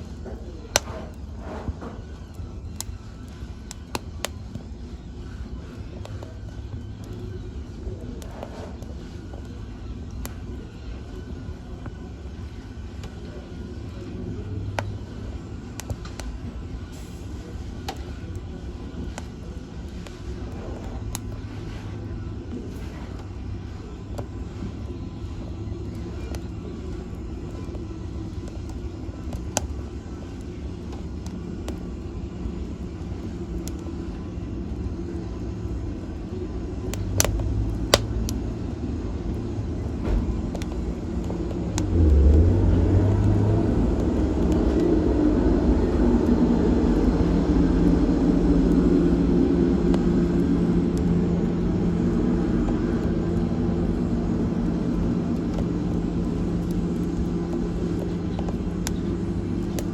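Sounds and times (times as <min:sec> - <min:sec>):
fire crackling pops: 0:00.0 - 0:59.9
fire rumbling: 0:00.0 - 0:59.9.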